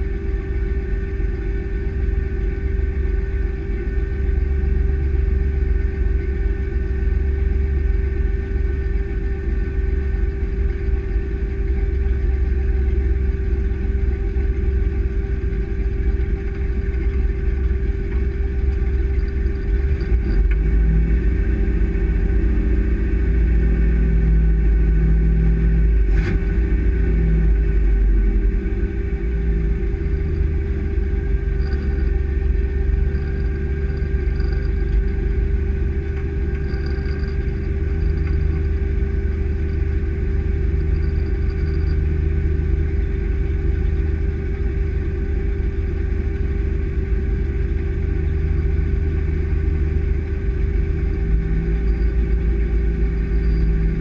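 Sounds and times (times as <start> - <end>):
road noise hum: 0.0 - 54.0
truck engine rumbling: 0.0 - 54.0.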